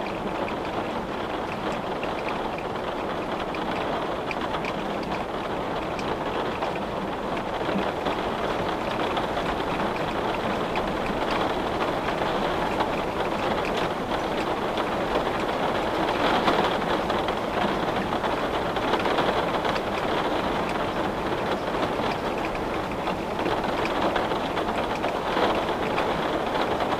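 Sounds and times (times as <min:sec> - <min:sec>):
rain on a window: 0:00.0 - 0:26.9.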